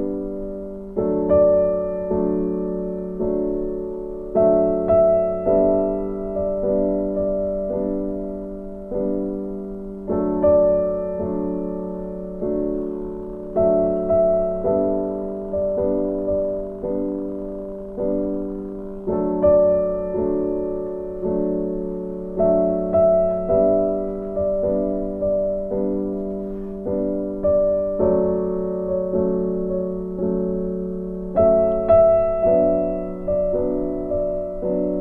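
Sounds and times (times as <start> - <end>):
slow gentle solo piano: 0.0 - 35.0.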